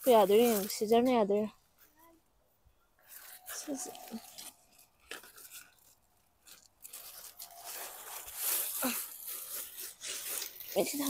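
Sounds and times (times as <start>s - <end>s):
dry leaves rustling and crunching: 0.0s - 1.1s, 3.1s - 11.0s.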